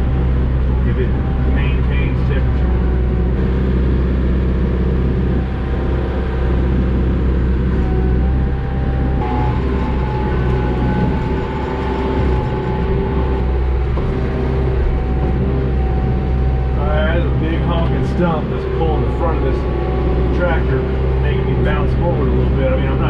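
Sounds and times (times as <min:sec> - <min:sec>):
steady hydraulic whine: 0:00.0 - 0:23.0
tractor diesel engine running: 0:00.0 - 0:23.0.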